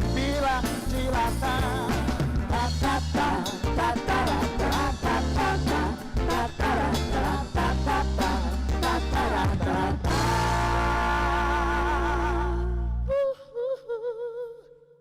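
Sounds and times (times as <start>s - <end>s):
pop band music with steady beat: 0.0s - 13.0s.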